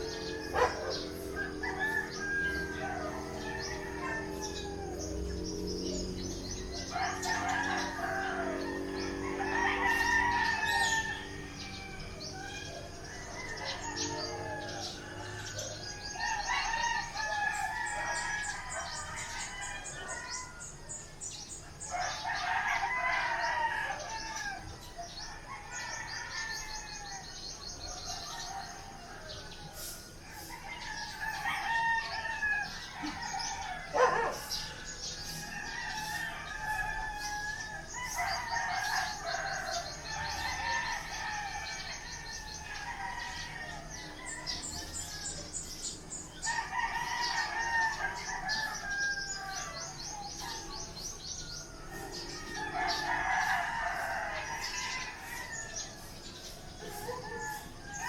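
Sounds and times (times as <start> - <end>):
roosters crowing: 0.0 - 58.0.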